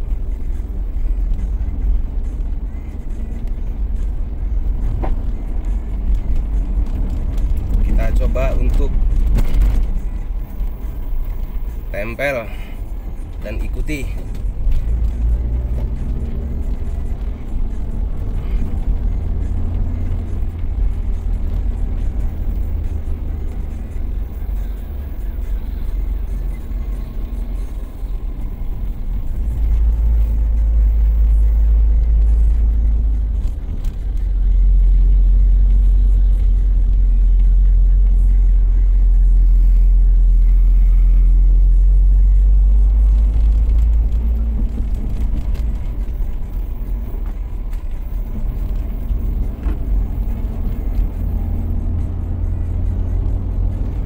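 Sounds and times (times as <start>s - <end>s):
engine hum: 0.0s - 54.0s
road vehicle rumble: 0.0s - 54.0s.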